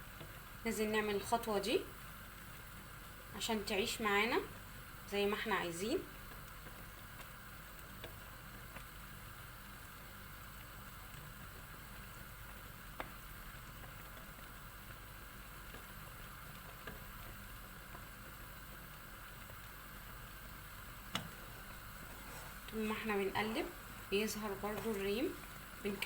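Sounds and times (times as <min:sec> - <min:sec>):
jam bubbling in a pot: 0:00.0 - 0:26.0.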